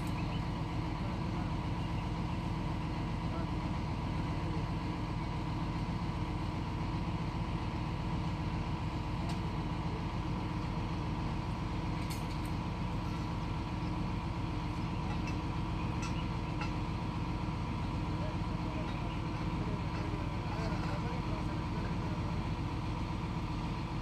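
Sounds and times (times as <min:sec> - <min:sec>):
crane engine idling: 0:00.0 - 0:24.0.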